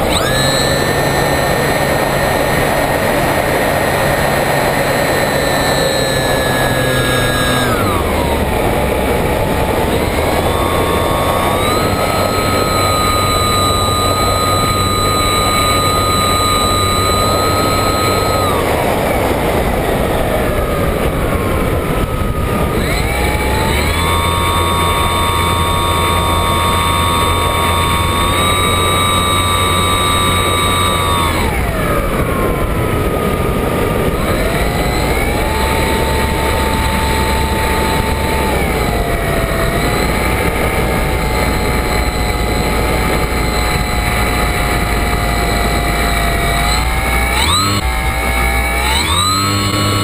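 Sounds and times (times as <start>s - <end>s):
model plane motor whining: 0.0s - 50.0s
wind rushing over microphone: 0.0s - 50.0s.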